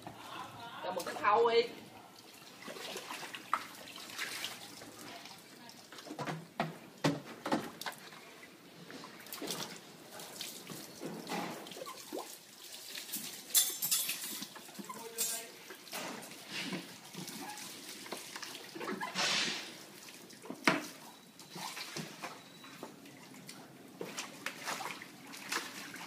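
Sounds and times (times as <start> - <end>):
water splashing and pouring: 1.9 - 6.2, 7.6 - 26.0.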